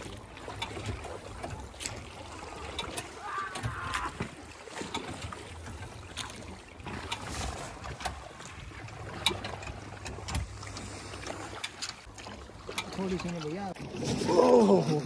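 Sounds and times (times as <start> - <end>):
sharp knocks of oars: 0.0 - 14.4
water moving around hull: 0.0 - 15.0.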